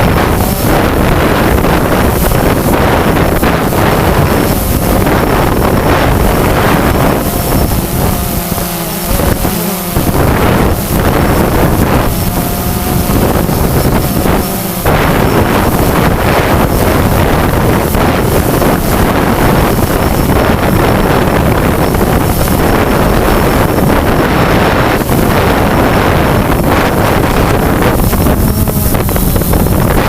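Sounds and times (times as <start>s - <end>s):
gusty wind on microphone: 0.0s - 30.0s.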